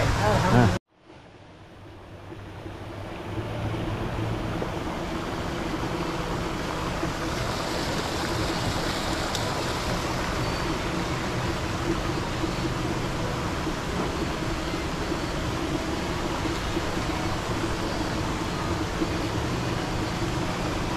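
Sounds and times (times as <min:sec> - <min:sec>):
low motor hum: 0:00.0 - 0:20.9
pond water churning and splashing: 0:00.0 - 0:20.9.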